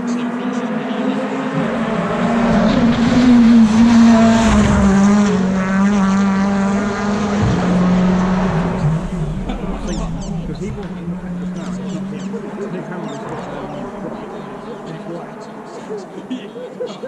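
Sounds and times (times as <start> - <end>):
racing cars passing at high revs: 0.0 - 16.9.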